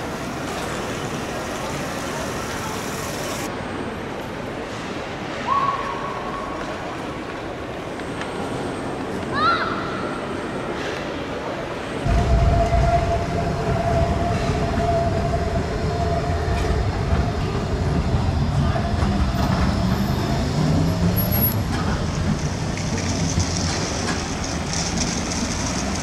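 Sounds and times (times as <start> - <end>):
trams rumbling and whining: 0.0 - 26.0.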